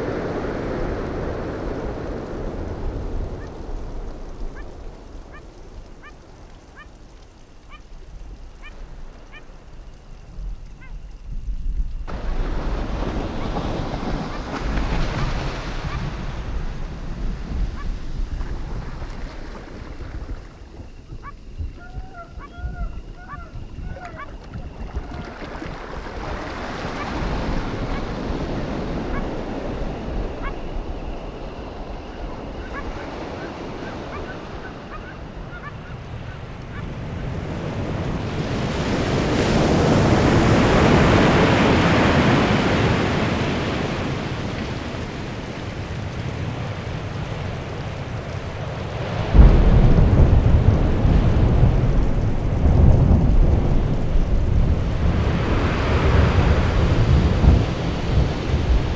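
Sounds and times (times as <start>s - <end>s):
surf washing over rocks: 0.0s - 10.9s, 11.8s - 21.3s, 23.2s - 58.9s.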